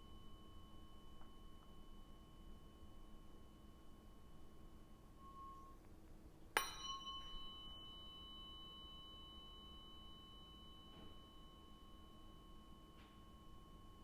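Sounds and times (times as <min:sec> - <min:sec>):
tuning fork ringing: 0:00.0 - 0:14.0.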